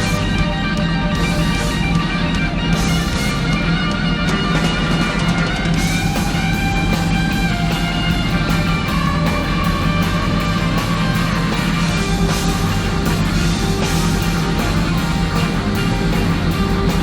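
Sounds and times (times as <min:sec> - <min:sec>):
guitar-led rock music: 0:00.0 - 0:17.0.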